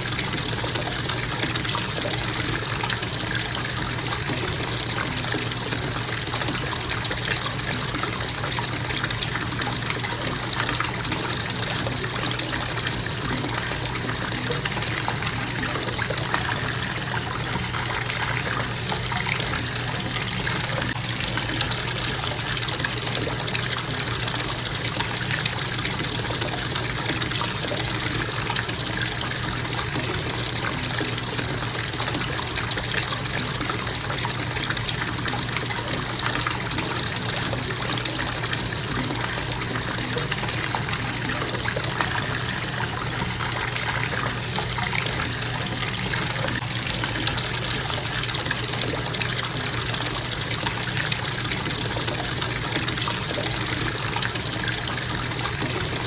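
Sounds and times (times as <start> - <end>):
faucet water filling bathtub: 0.0 - 56.0.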